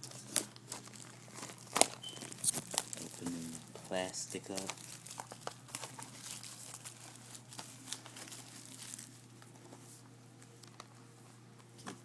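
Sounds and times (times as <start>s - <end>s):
plastic shrink-wrap crinkling: 0.0s - 11.0s.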